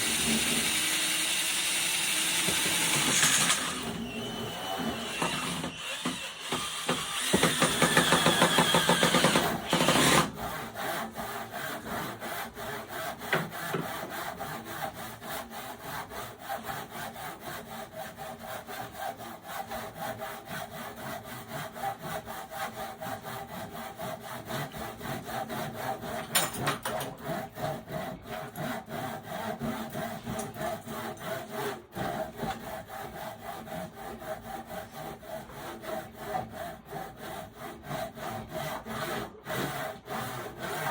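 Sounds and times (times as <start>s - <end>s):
handsaw cutting wood: 0.0s - 40.9s.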